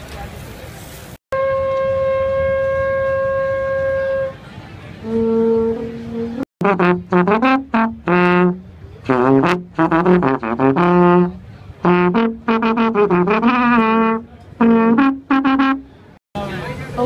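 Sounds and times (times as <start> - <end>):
brass band playing: 1.3 - 16.2.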